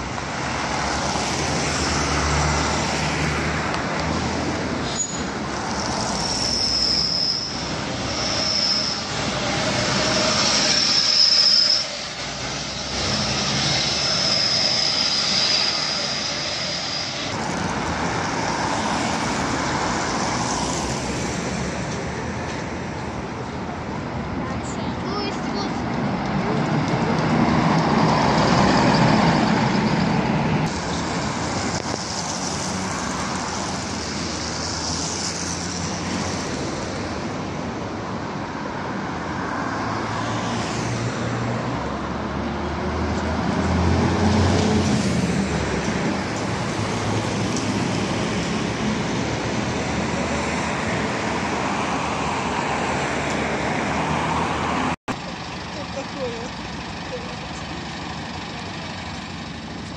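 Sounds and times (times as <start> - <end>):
bus engine: 0.0 - 59.9
city street traffic: 0.0 - 59.9
diesel coach engine passing: 0.0 - 59.9.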